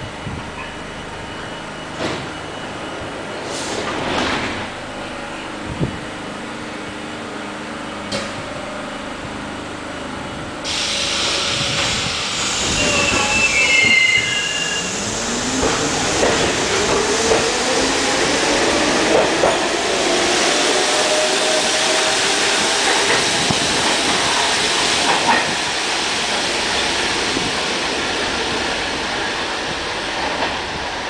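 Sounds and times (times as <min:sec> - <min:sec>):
subway train humming: 0:00.0 - 0:31.0.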